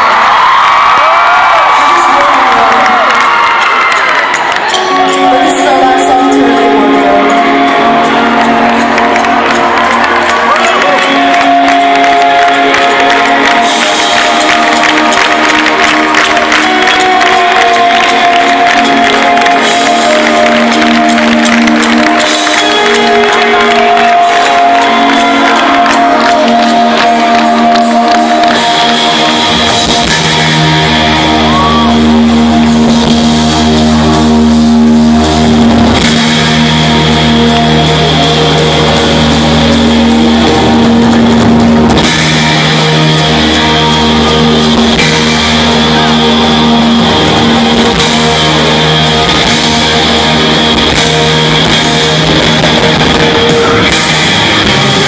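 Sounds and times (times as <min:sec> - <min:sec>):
live rock band playing: 0:01.8 - 0:55.0.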